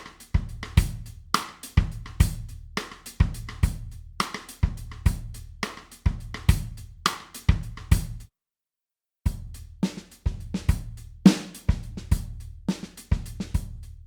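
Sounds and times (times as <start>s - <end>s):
bass drum and snare beat: 0.0s - 8.2s, 9.3s - 14.0s.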